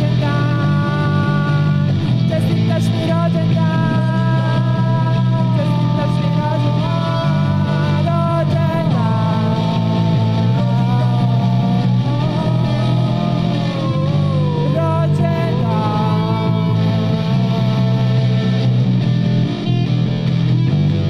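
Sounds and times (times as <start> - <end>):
electric bass long low notes: 0.0 - 21.0
electric guitar sliding melody: 0.0 - 21.0.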